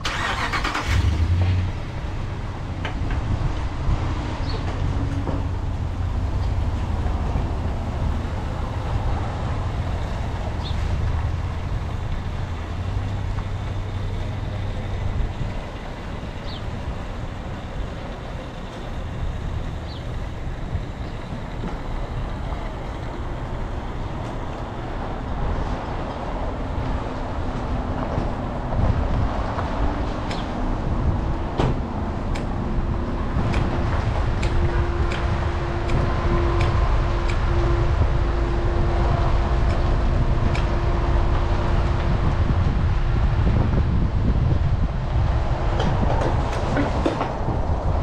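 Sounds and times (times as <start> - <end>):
motorcycle engine hum: 0.0 - 48.0
wind and road noise: 0.0 - 48.0.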